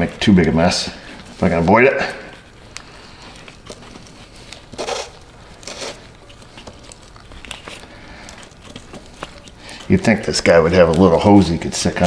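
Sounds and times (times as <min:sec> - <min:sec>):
scraping rustles: 0:00.0 - 0:12.0
small clicks and rustles: 0:00.0 - 0:12.0.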